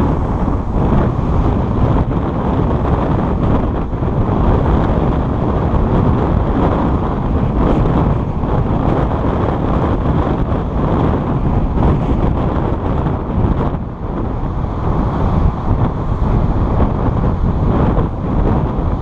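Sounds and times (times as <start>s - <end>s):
car road noise: 0.0s - 19.0s
wind buffeting microphone: 0.0s - 19.0s.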